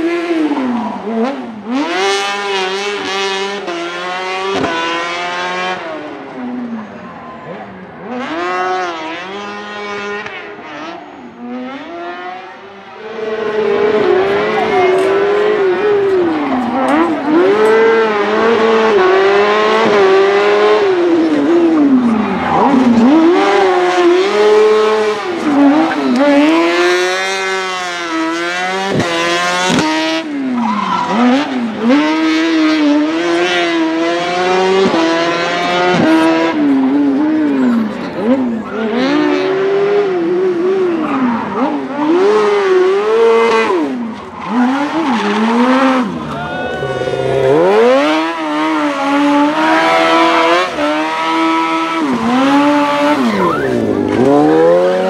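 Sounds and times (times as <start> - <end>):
small vehicle engine revving: 7.5 - 55.0.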